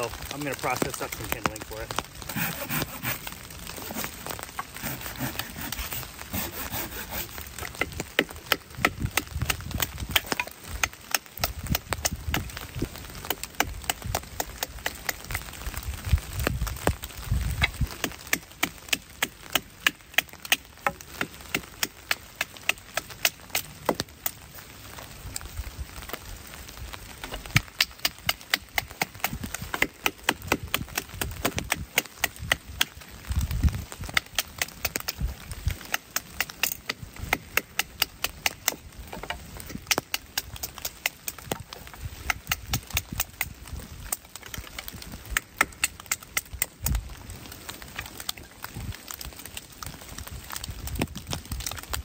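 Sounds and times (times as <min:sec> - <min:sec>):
wood cracking: 0:00.0 - 0:52.0.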